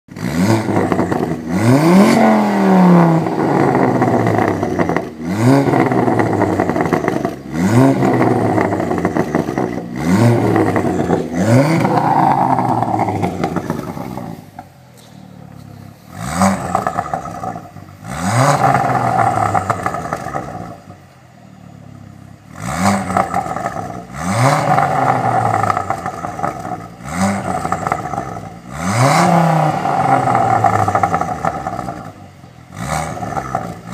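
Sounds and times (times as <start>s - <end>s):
car engine revving: 0.1s - 33.9s
exhaust pops and crackles: 0.4s - 21.0s, 22.8s - 33.9s.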